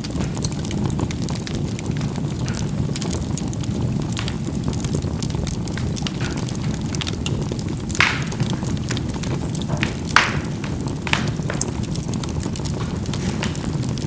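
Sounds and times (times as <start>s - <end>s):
charcoal crackling pops: 0.0s - 14.0s
charcoal fire rumbling: 0.0s - 14.0s.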